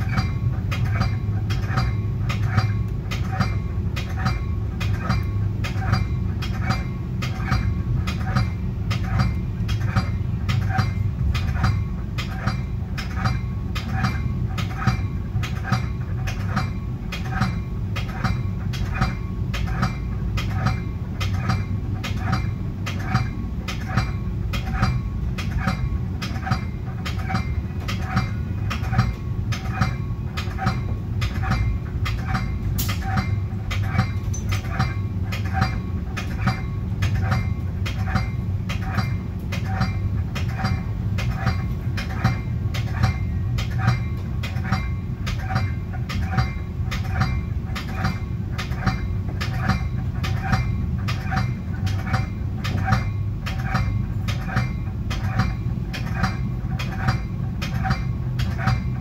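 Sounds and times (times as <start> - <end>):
regular ringing tick: 0.0 - 59.0
train rumbling on rails: 0.0 - 59.0.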